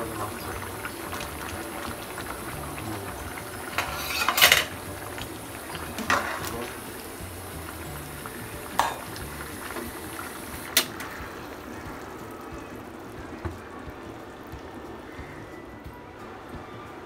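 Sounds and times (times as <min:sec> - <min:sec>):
curry bubbling in pan: 0:00.0 - 0:15.4.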